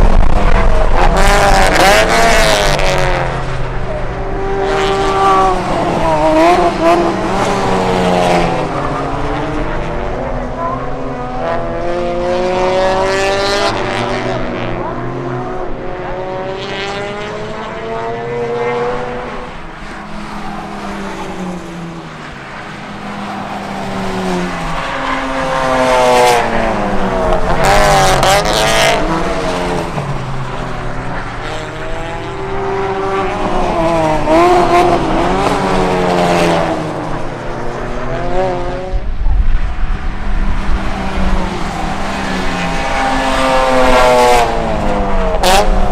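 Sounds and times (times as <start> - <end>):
race cars passing: 0.0 - 45.9.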